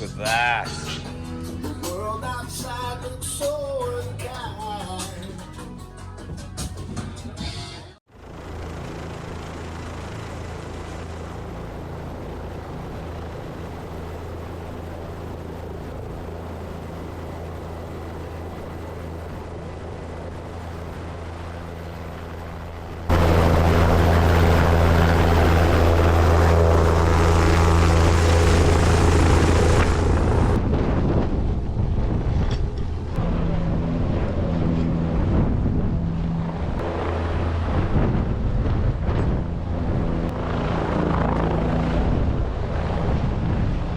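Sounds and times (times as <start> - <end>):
helicopter rotor drone: 8.1 - 43.9.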